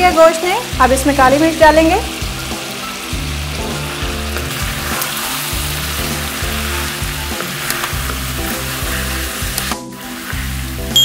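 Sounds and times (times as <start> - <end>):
background music: 0.0 - 11.0
meat sizzling in a pan: 0.0 - 11.0.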